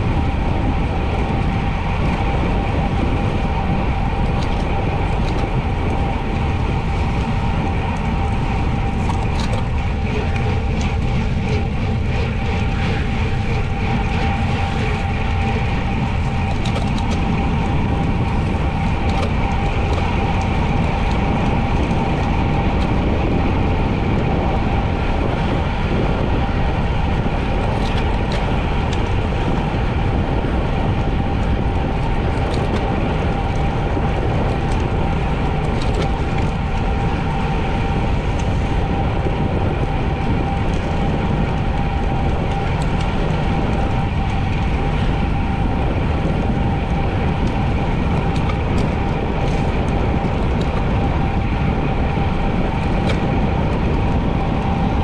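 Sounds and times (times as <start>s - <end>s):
bicycle tyre noise: 0.0s - 55.0s
constant hum: 0.0s - 55.0s
wind on microphone: 0.0s - 55.0s.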